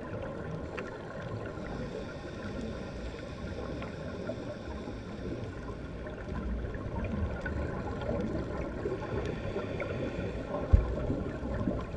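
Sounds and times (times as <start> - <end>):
underwater rushing and rumbling: 0.0 - 11.9.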